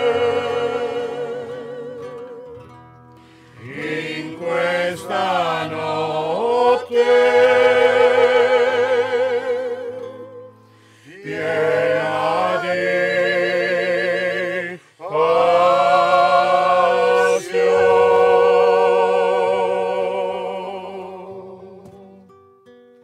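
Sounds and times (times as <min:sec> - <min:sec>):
group of voices singing in harmony: 0:00.0 - 0:02.7, 0:03.4 - 0:22.2.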